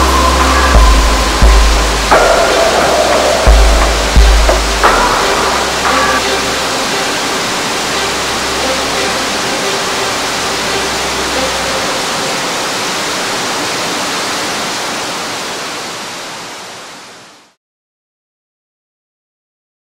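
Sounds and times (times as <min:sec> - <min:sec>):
waterfall pouring onto rocks: 0:00.0 - 0:17.6.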